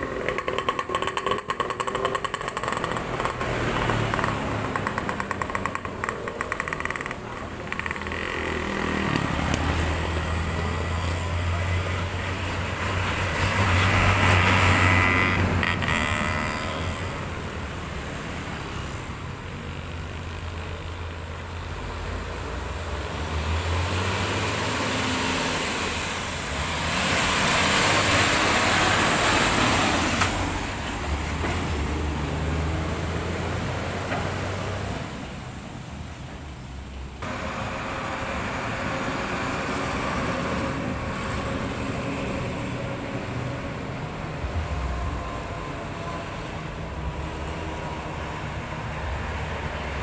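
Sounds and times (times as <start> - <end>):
heavy trucks engine drone: 0.0 - 50.0.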